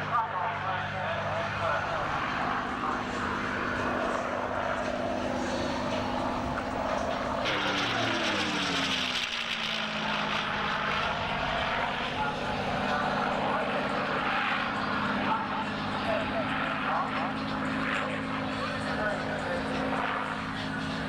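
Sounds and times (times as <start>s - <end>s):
aircraft engine flypast: 0.0s - 21.0s.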